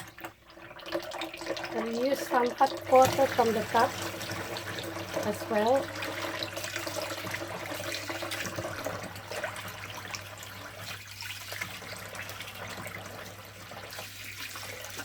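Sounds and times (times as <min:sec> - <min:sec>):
water running from a tap: 0:00.0 - 0:15.0.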